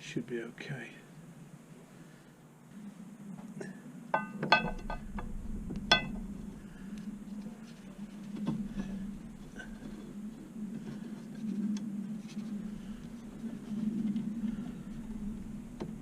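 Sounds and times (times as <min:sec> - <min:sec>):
low hum: 0:01.0 - 0:16.0.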